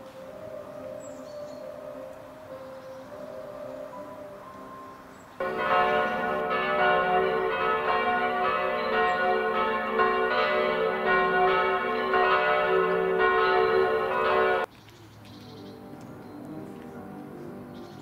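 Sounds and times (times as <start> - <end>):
church bells ringing a peal: 0.0 - 14.7.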